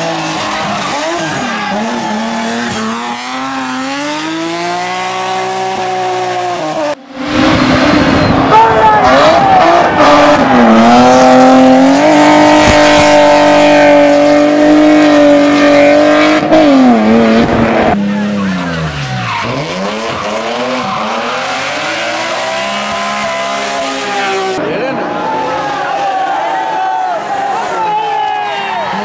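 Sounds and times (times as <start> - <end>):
rally car engine revving: 0.0 - 25.9.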